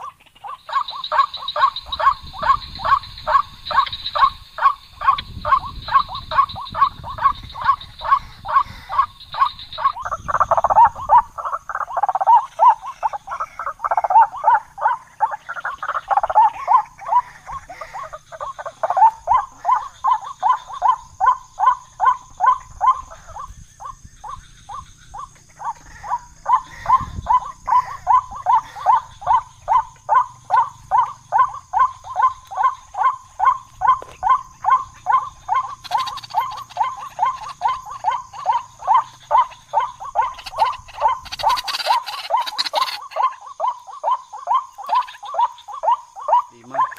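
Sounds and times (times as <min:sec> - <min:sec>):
waterhen croaking: 0:00.0 - 0:46.9.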